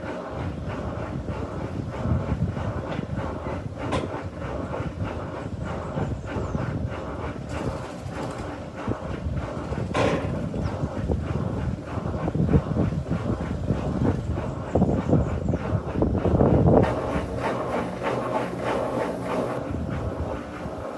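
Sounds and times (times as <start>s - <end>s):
washing machine churning: 0.0s - 20.9s.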